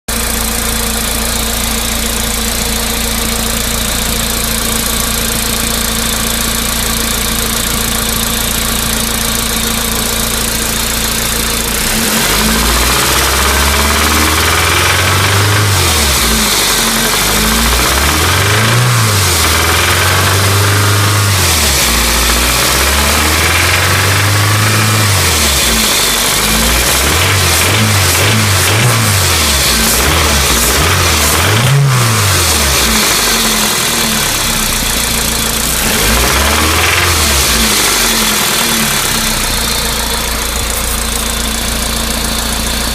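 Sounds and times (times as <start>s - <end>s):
car engine idling and revving: 0.1s - 42.9s.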